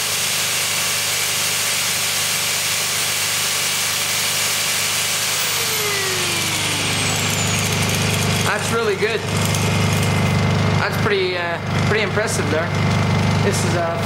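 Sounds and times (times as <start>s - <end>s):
angle grinder whining: 0.0s - 14.0s
generator engine running: 0.0s - 14.0s.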